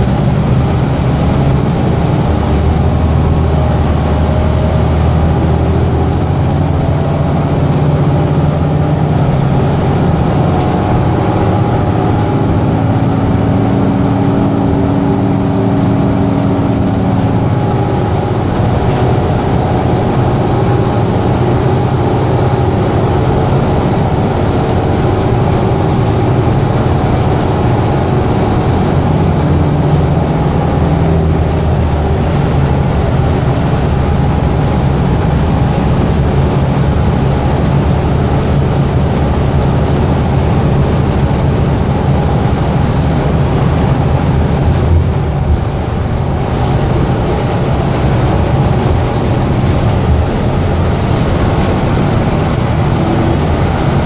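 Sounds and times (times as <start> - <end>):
air conditioning running: 0.0 - 54.0
bus drivetrain hum: 0.0 - 54.0
low humming tone: 0.0 - 54.0
road noise: 0.0 - 54.0.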